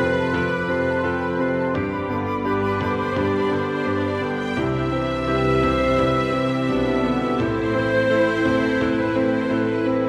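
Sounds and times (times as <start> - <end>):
background music of held notes: 0.0 - 10.0.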